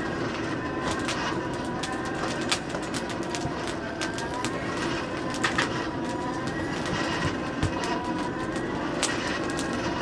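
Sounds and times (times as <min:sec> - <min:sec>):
air blowing into fire: 0:00.0 - 0:10.0
fire crackling and popping: 0:00.0 - 0:10.0.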